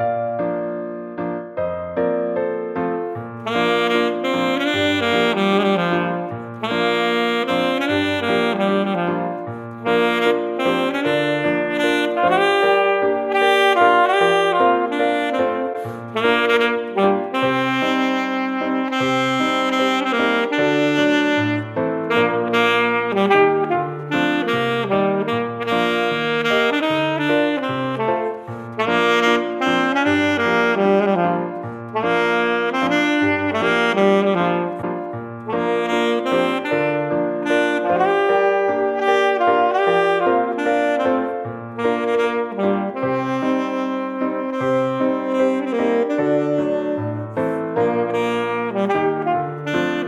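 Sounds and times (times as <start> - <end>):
saxophone melody: 3.3 - 50.0.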